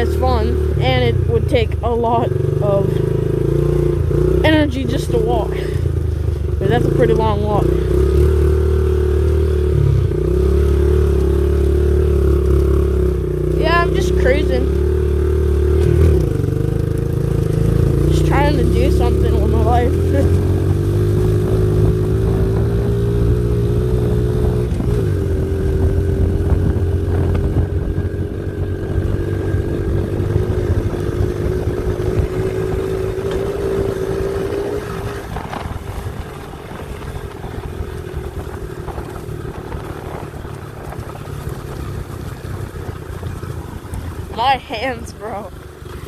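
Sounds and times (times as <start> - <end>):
pit bike engine running: 0.0 - 46.0.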